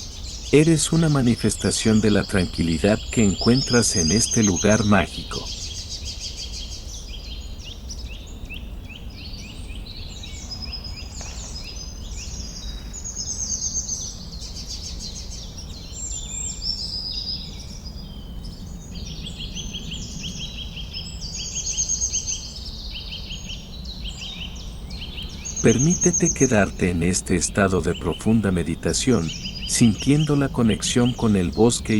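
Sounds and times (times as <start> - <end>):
birds chirping and trilling: 0.0 - 31.9.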